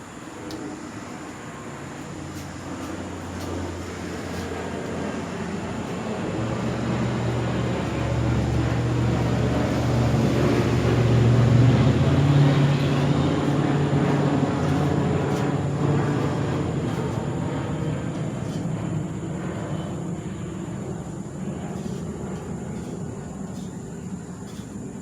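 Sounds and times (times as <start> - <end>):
low motor drone: 0.0 - 24.8.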